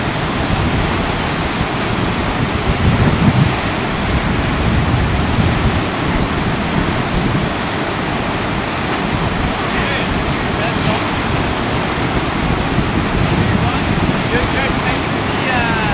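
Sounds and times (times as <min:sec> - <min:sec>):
whitewater rapids rushing: 0:00.0 - 0:15.9
wind buffeting microphone: 0:00.0 - 0:15.9.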